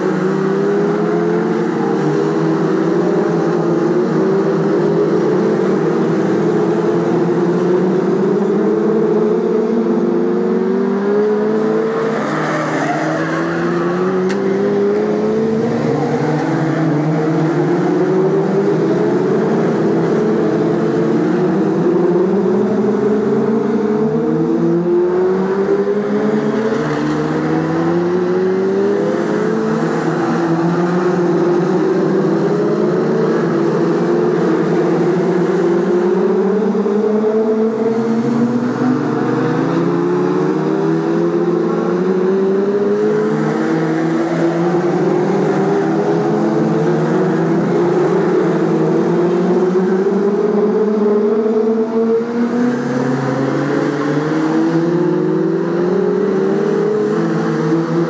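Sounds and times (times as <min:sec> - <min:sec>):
stock car engines racing: 0:00.0 - 0:58.0.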